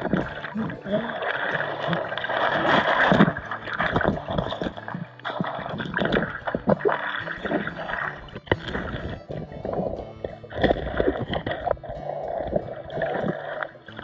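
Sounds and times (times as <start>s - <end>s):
hand scraping rocks underwater: 0.0s - 14.0s
muffled gurgling water underwater: 0.0s - 14.0s.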